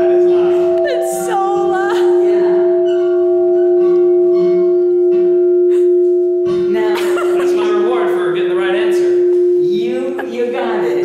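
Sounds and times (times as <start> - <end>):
large bell ringing: 0.0 - 11.0.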